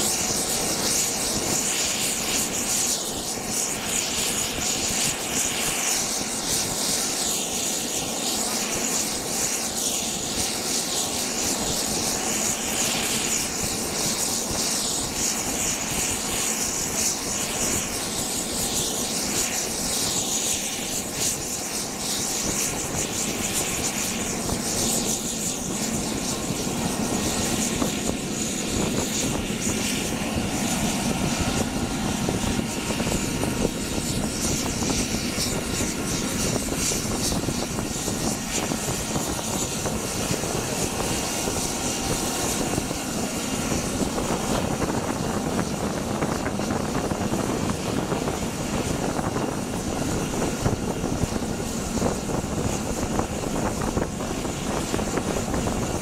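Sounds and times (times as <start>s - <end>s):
aircraft turbines whining: 0.0s - 56.0s.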